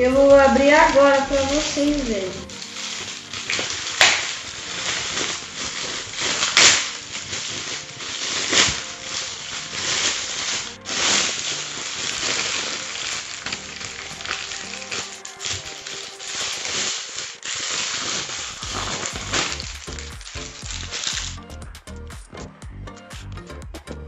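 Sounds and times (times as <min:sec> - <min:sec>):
plastic bag crinkling and rustling: 0:00.0 - 0:21.6
sharp plastic crackles: 0:00.0 - 0:21.6.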